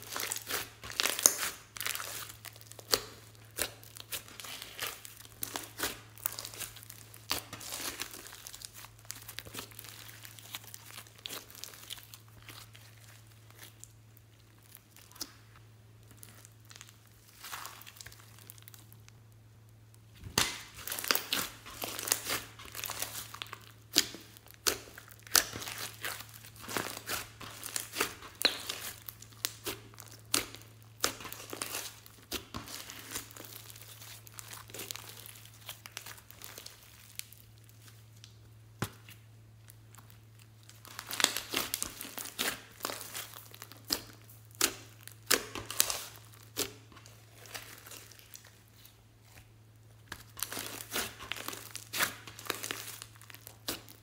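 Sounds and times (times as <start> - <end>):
slime squishing and popping: 0.0 - 15.5, 20.2 - 54.0
low steady hum: 0.0 - 54.0.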